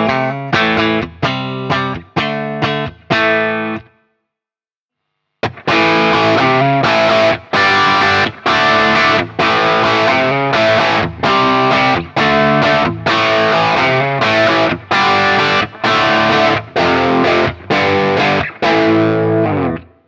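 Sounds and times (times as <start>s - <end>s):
overdriven electric guitar chords: 0.0s - 4.0s, 5.4s - 20.0s.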